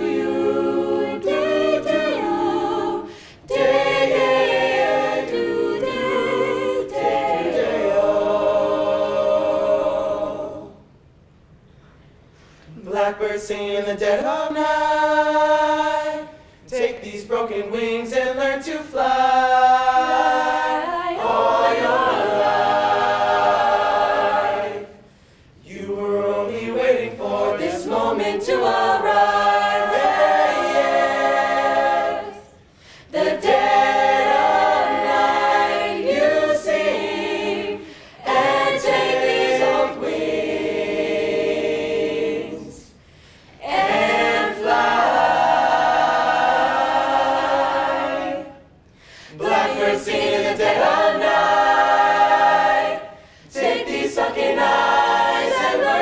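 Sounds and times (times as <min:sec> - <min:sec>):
a cappella group singing: 0:00.0 - 0:11.0, 0:12.4 - 0:56.0.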